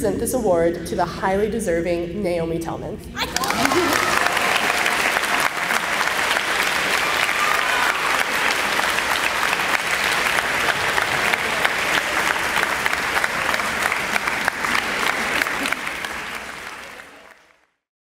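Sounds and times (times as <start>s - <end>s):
audience applauding: 3.2s - 17.8s.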